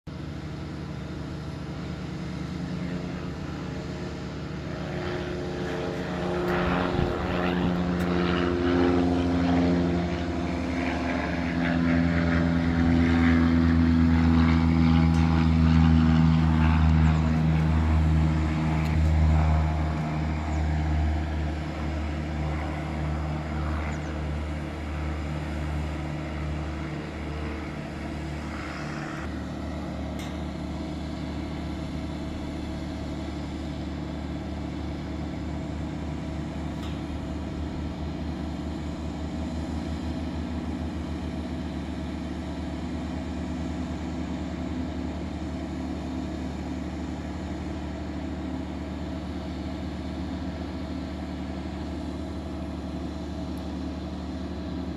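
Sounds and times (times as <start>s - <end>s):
propeller airplane engine droning: 0.0s - 54.9s.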